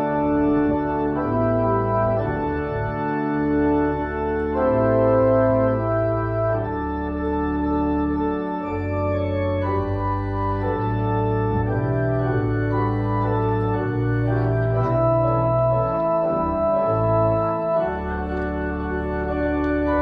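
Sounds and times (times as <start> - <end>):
organ playing held chords: 0.0 - 20.0.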